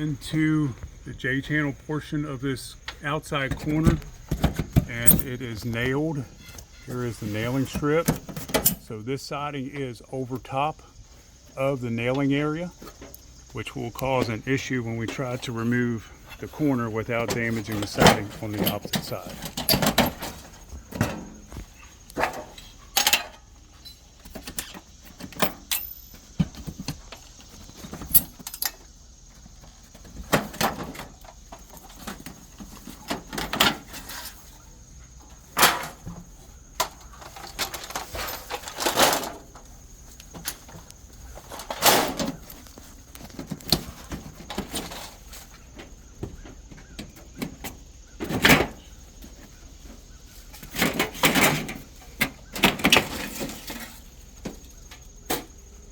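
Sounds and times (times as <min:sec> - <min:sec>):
plastic siding clacks and scrapes: 0:02.9 - 0:08.9, 0:16.0 - 0:55.8.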